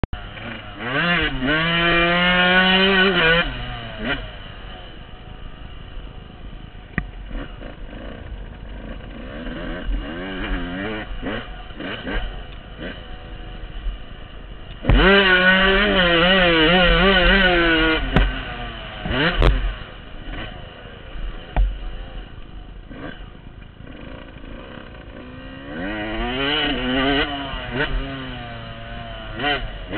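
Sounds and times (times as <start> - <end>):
dirt bike engine revving: 0.1 - 29.9.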